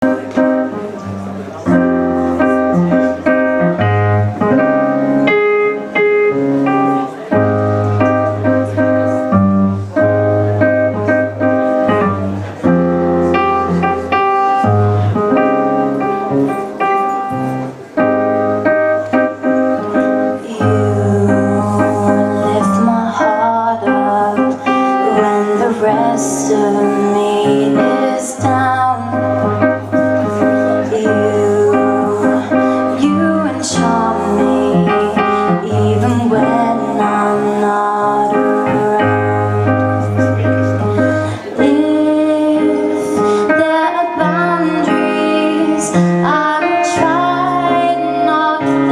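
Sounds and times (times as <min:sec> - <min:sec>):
keyboard chords: 0:00.0 - 0:48.9.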